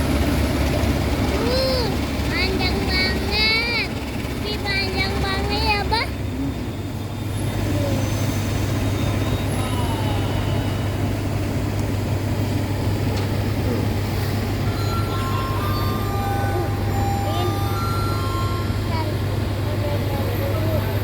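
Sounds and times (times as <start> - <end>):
diesel train engine humming: 0.0 - 21.0
general noise haze: 0.0 - 21.0.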